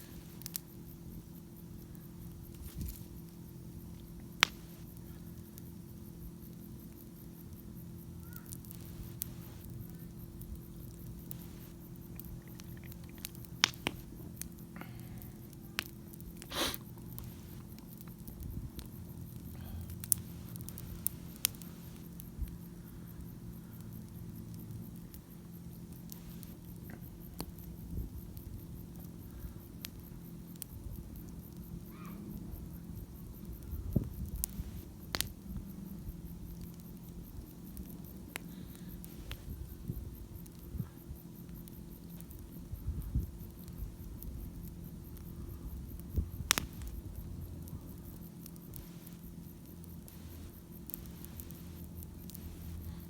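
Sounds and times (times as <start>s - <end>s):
campfire crackling and popping: 0.0s - 53.0s
low steady hum: 0.0s - 53.0s.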